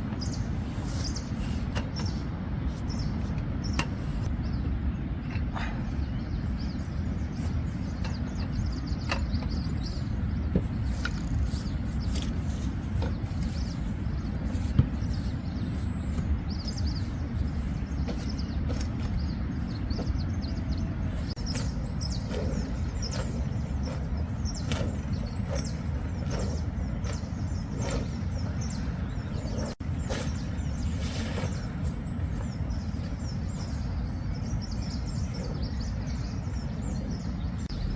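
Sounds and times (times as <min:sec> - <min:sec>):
bird chirps: 0:00.0 - 0:37.9
wind: 0:00.0 - 0:37.9.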